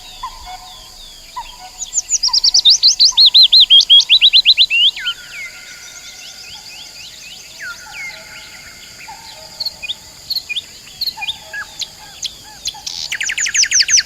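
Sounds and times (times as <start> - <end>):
bird trill: 0.0 - 14.0
birds chirping: 0.0 - 14.0.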